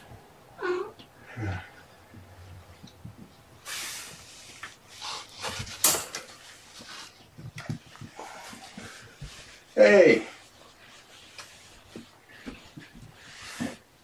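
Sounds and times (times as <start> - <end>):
rustling: 1.5 - 14.0.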